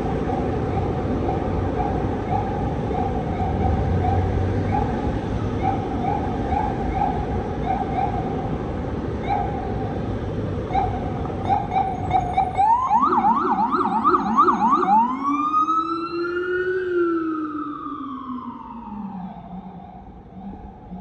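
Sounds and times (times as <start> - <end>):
emergency vehicle siren: 0.0 - 9.9, 10.6 - 21.0.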